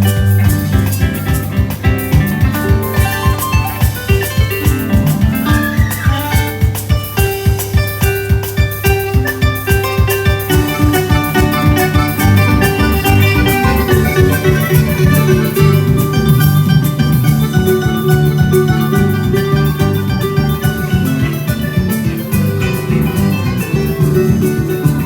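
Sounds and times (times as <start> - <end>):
bass line: 0.0 - 6.6, 10.6 - 25.0
plucked-string melody: 0.0 - 25.0
steady rhythmic beat: 0.0 - 25.0.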